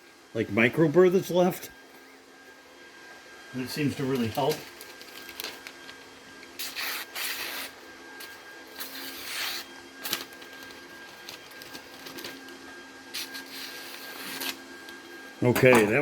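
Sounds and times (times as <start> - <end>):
sharpening machine humming: 0.0 - 16.0.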